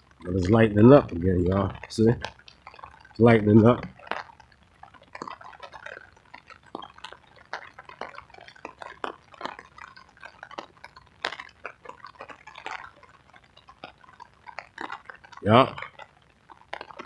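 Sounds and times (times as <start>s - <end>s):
rain drops tapping and dripping: 0.0s - 17.0s.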